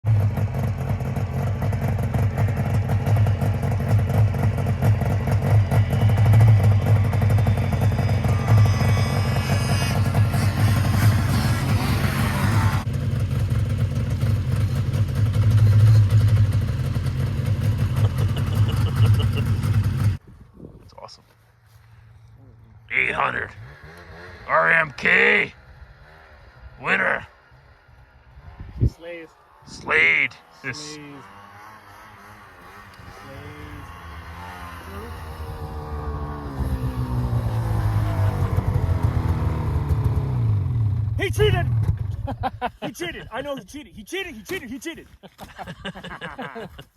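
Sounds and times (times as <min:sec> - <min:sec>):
snowmobile engines droning: 0:00.1 - 0:20.2, 0:22.2 - 0:46.9.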